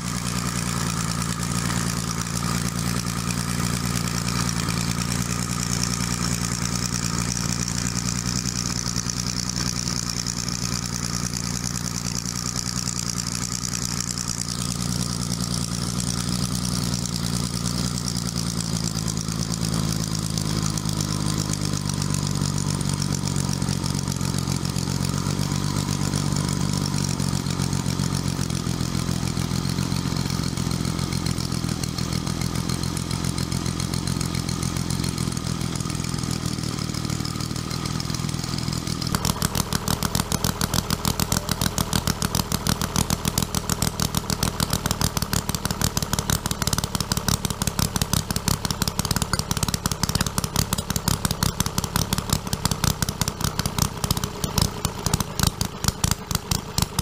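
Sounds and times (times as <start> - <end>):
small diesel engine running: 0.0 - 57.0.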